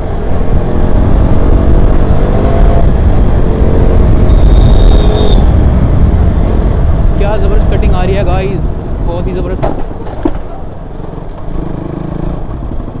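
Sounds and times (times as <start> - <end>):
heavy low rumble: 0.0 - 11.0.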